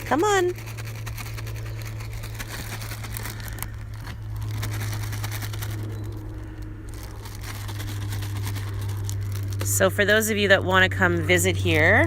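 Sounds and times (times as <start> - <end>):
treat bag crinkling: 0.0 - 10.4
steady low hum: 0.0 - 12.0.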